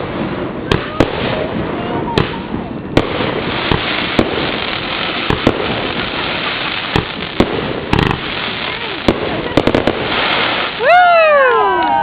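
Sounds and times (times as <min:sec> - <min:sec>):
fireworks bangs: 0:00.0 - 0:12.0
fireworks display noise: 0:00.0 - 0:12.0.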